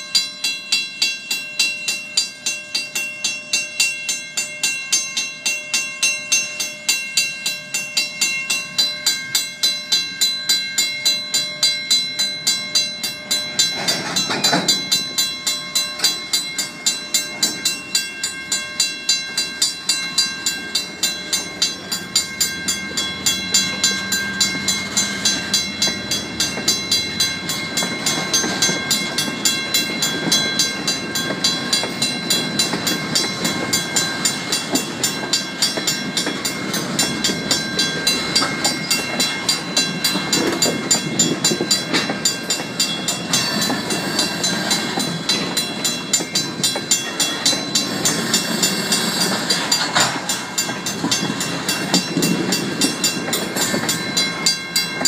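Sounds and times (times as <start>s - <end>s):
freight cars rolling on rails: 0.0s - 55.0s
mechanical crossing bell ringing: 0.0s - 55.0s.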